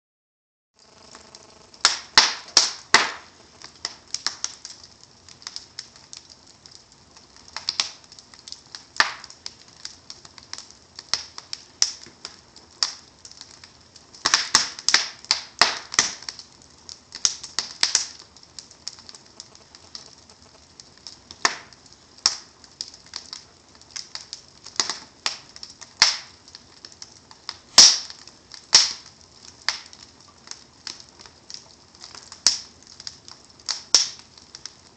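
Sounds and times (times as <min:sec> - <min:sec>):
faint fire hiss: 0:00.8 - 0:34.9
wood fire crackling and popping: 0:00.8 - 0:34.9.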